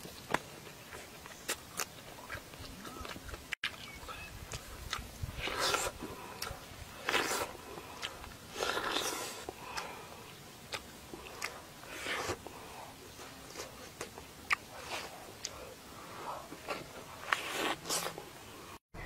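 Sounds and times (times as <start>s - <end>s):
person chewing: 0.0s - 18.8s.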